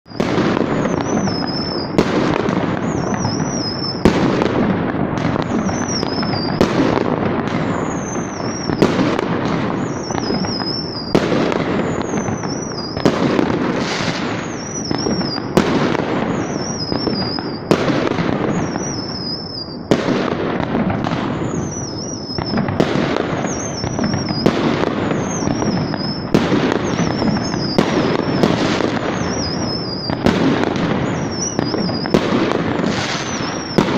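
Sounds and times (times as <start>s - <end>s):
firework bangs: 0.0s - 33.9s
firework whistles: 0.0s - 33.9s.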